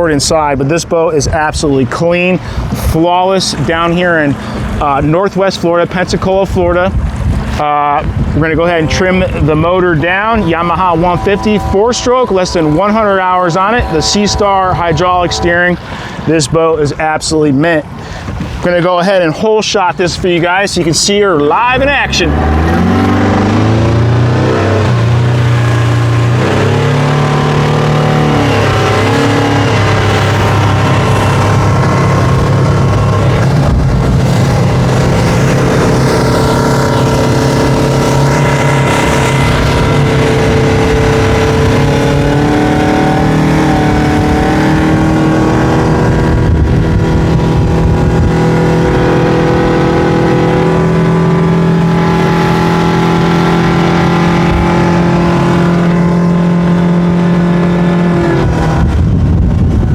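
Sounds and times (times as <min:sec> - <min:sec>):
outboard motor accelerating: 0:00.0 - 0:59.9.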